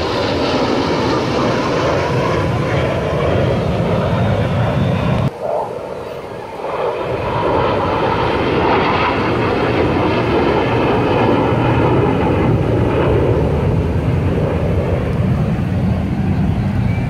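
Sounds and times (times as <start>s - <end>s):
fighter jets roaring past: 0.0s - 17.0s.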